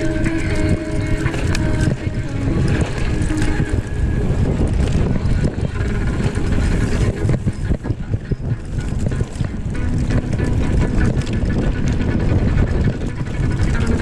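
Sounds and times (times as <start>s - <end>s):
bike rattling over rough ground: 0.0s - 14.0s
wind buffeting microphone: 0.0s - 14.0s.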